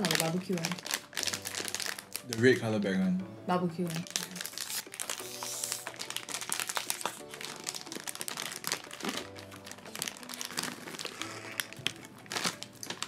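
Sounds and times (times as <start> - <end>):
plastic snack bag crinkling: 0.0 - 2.8, 3.9 - 13.0
background music with sustained notes: 0.0 - 13.0.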